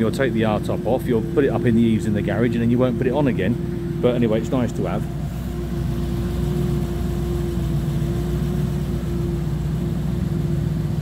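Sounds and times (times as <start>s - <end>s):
car engine idling: 0.0s - 11.0s
constant hum: 0.0s - 11.0s.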